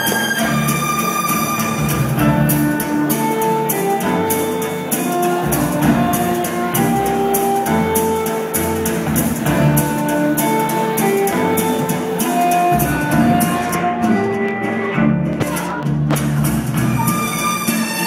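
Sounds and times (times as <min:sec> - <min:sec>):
live rock band playing: 0:01.3 - 0:18.0.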